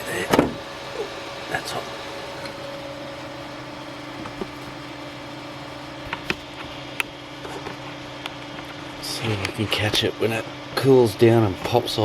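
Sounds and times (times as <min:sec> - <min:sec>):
printer fans humming: 0:00.0 - 0:12.0.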